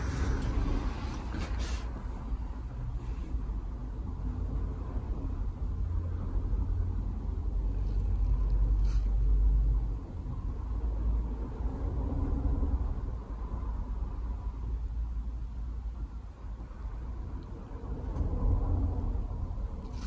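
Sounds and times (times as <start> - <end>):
low steady background rumble: 0.0 - 20.0.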